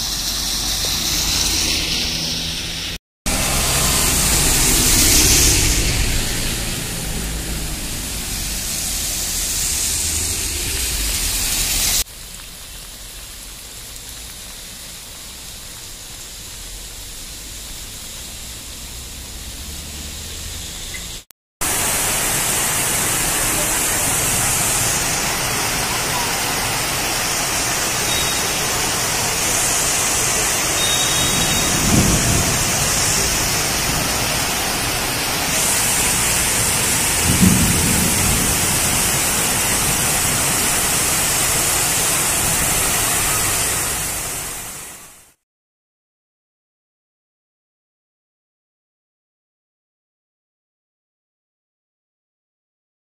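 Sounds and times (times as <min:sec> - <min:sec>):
car driving on wet road: 0:00.0 - 0:45.3
heavy rain on wet road: 0:00.0 - 0:45.4.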